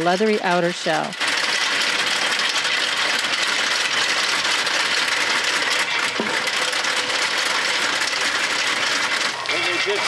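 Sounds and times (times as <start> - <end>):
nut dehusker mechanical rattle: 0.0 - 10.0.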